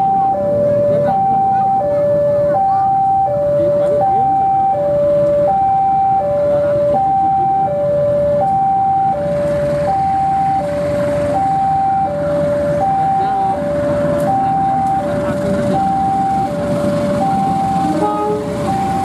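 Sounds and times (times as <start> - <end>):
diesel locomotive rumble: 0.0 - 19.0
two-tone electronic warning alarm: 0.0 - 19.0.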